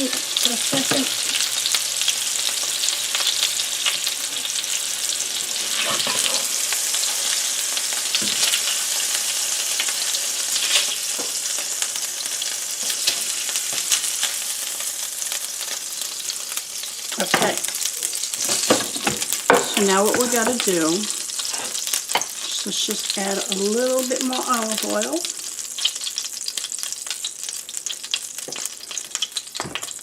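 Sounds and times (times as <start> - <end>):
patties sizzling in a pan: 0.0 - 30.0.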